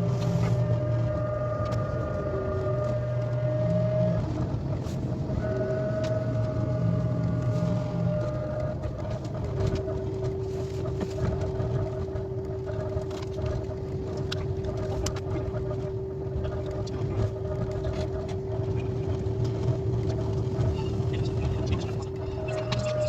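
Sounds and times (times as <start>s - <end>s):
steady whine: 0.0s - 23.0s
train interior rumble: 0.0s - 23.0s.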